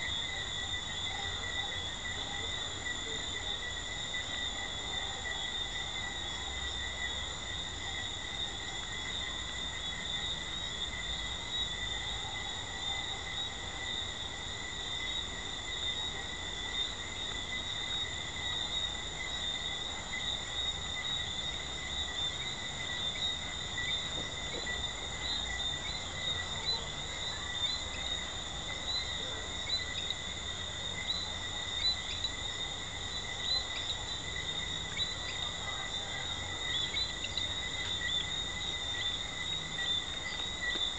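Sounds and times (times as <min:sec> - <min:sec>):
treefrogs trilling: 0:00.0 - 0:40.9.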